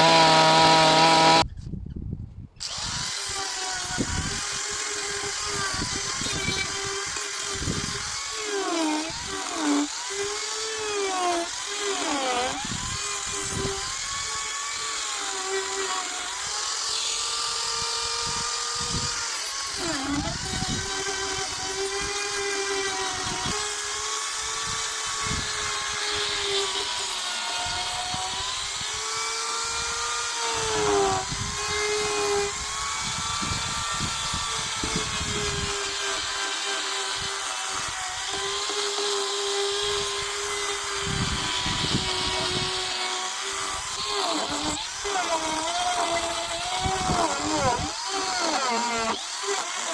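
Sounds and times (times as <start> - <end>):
chainsaw cutting wood: 0.0 - 1.5, 2.6 - 49.9.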